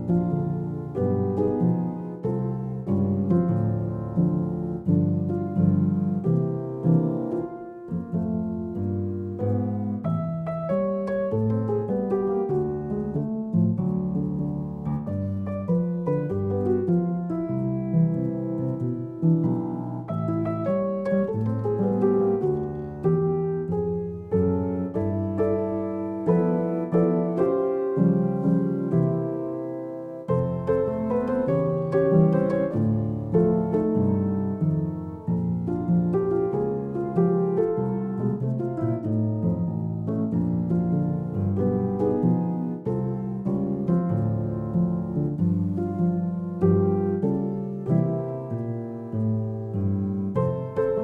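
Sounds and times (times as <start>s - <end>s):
piano music: 0.0s - 51.0s.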